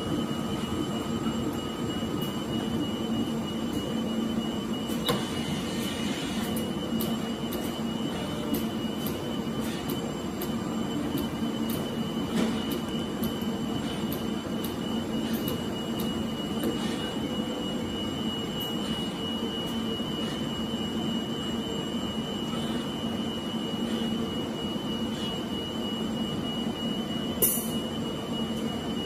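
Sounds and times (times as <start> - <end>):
equipment and cooling fans droning: 0.0 - 29.0
high-pitched whine: 0.0 - 29.0.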